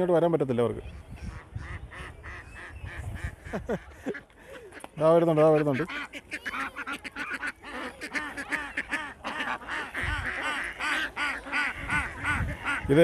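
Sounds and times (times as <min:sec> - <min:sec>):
ducks quacking: 0:00.8 - 0:13.0.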